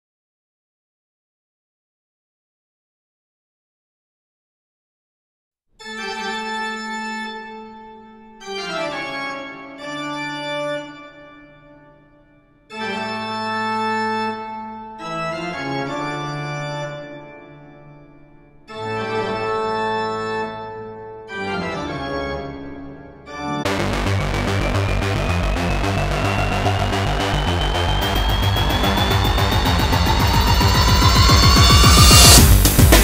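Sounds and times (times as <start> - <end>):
slow organ chords: 5.8 - 33.0.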